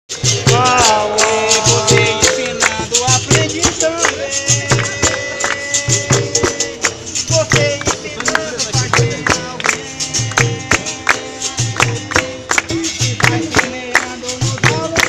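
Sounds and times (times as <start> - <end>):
jingling rattling percussion: 0.1 - 15.0
low drum rhythm: 0.1 - 15.0
voices singing: 0.3 - 15.0.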